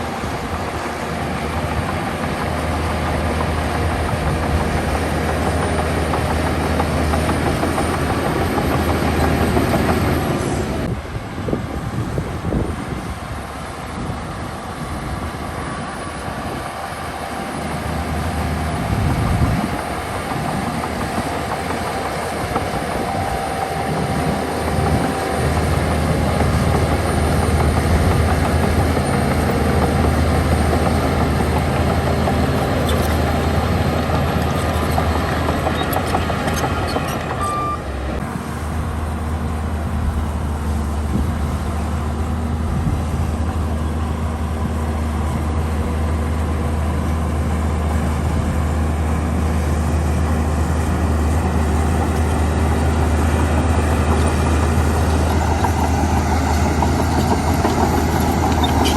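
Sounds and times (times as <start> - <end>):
diesel engine under load: 0.0 - 58.9.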